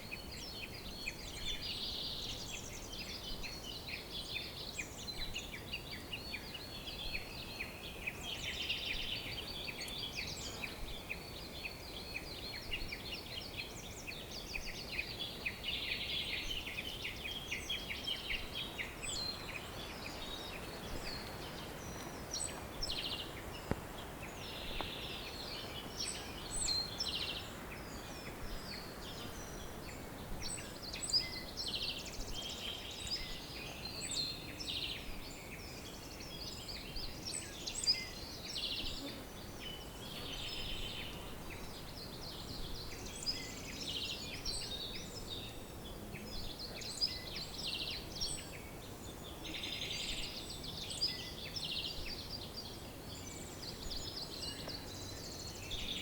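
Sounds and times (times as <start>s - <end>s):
birds chirping and trilling: 0.0s - 56.0s
low background noise: 0.0s - 56.0s.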